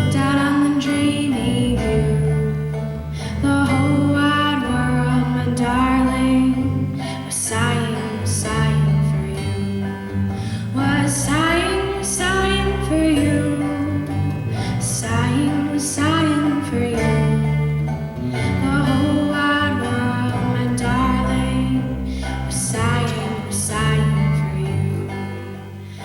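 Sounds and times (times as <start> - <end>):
strummed acoustic guitar: 0.0 - 26.0.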